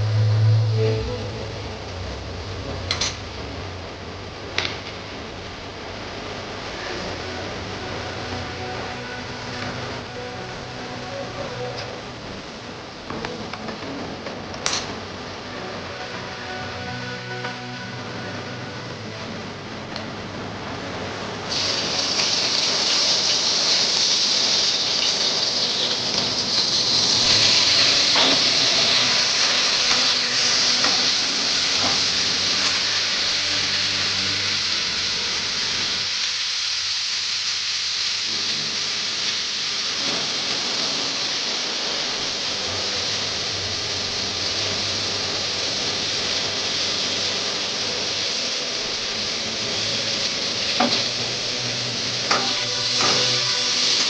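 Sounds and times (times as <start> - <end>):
food sizzling on stove: 2.8 - 19.7, 20.3 - 54.0.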